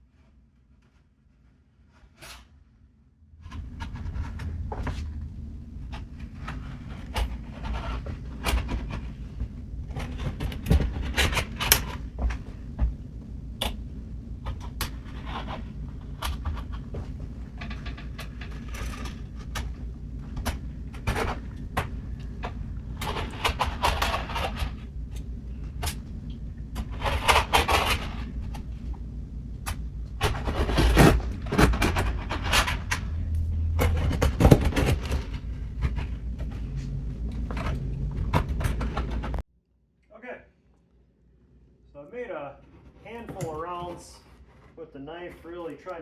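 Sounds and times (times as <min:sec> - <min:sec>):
low steady hum: 0:02.7 - 0:46.0.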